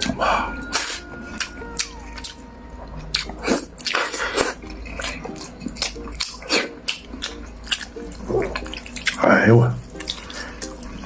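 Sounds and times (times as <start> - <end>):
chewing and slurping noodles: 0.0 - 11.0.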